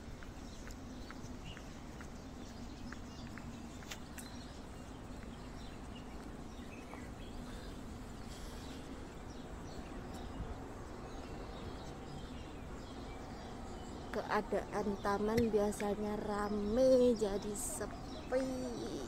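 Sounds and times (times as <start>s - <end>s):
outdoor background hum: 0.0s - 19.0s.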